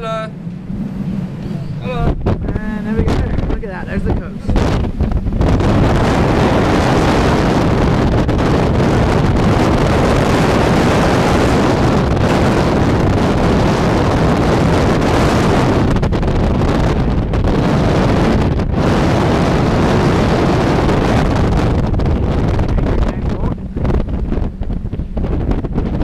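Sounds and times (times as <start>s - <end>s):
wind noise on microphone: 0.0s - 26.0s.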